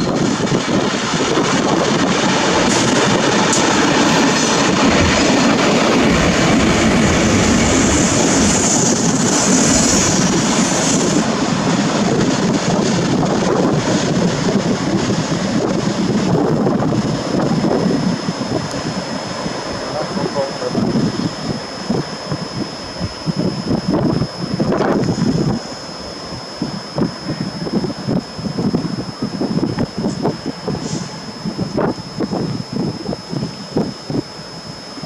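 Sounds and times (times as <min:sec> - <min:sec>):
diesel locomotive engines running: 0:00.0 - 0:35.0
train wheel and rail noise: 0:00.0 - 0:35.0.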